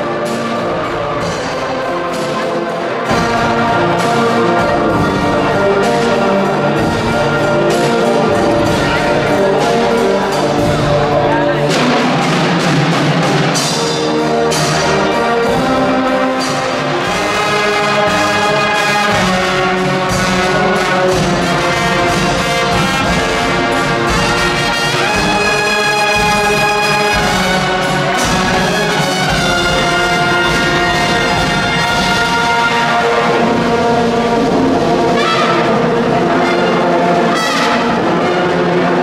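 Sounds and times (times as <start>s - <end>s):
brass instruments playing: 0.0s - 39.0s
drums: 0.0s - 39.0s.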